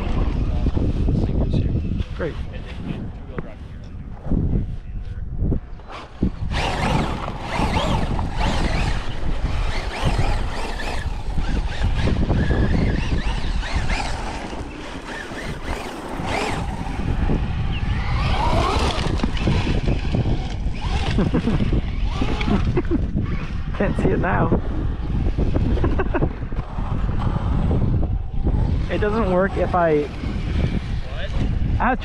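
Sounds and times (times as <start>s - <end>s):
wind rumbling on microphone: 0.0s - 32.0s
rc truck motor whine: 5.7s - 31.8s.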